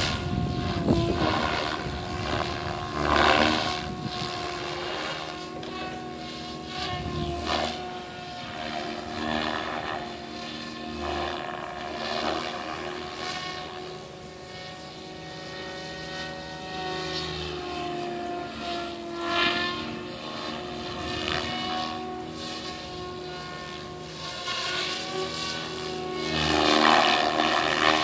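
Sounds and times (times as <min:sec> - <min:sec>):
model helicopter rotor drone: 0:00.0 - 0:28.0.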